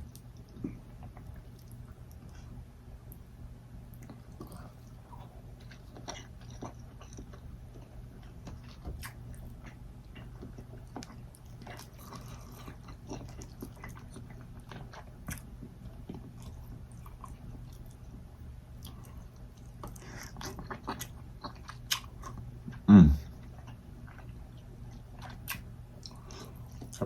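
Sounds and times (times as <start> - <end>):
person chewing food: 0.0 - 3.2, 3.9 - 27.0
steady low hum: 0.0 - 27.0.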